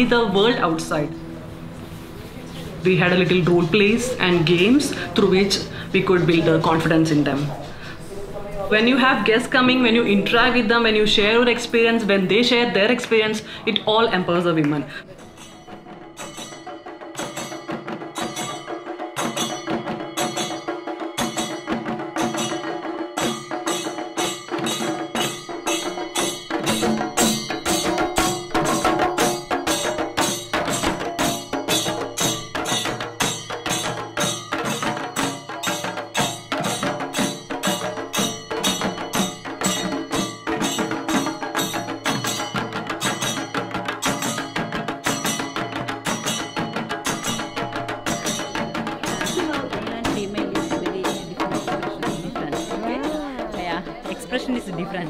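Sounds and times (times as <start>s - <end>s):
drums beaten with sticks: 3.0s - 7.8s, 8.8s - 55.0s.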